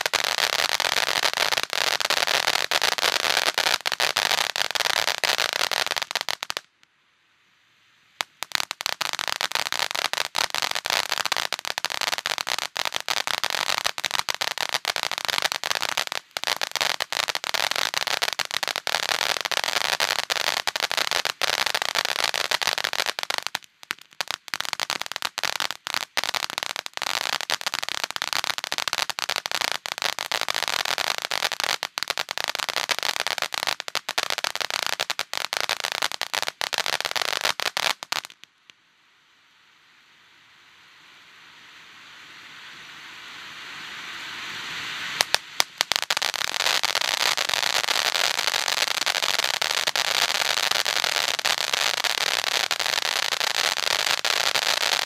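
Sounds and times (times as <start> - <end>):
firework fountain hissing and crackling: 0.0 - 6.8, 8.0 - 55.0.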